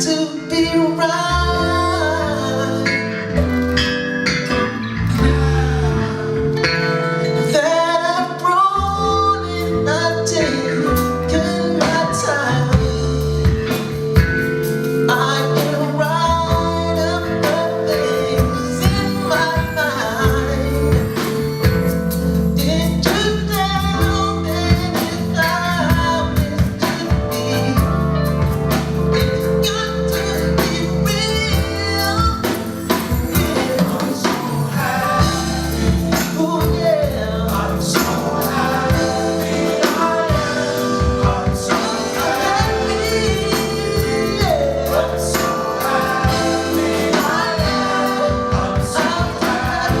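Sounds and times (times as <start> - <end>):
lead vocal singing: 0.0 - 50.0
live band playing a song: 0.0 - 50.0.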